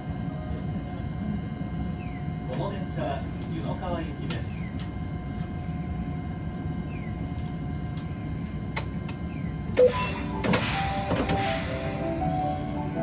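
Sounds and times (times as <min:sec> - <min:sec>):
tram wheels and motor rumbling: 0:00.0 - 0:13.0.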